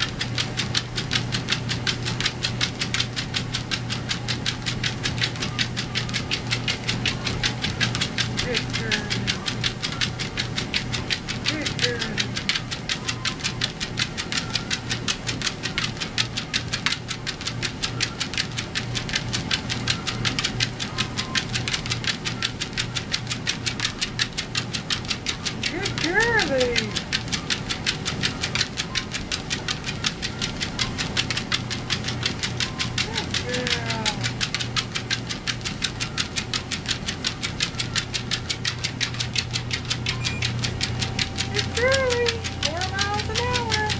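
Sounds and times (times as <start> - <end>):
dog paws pattering on treadmill: 0.0 - 43.9
treadmill motor hum: 0.0 - 43.9.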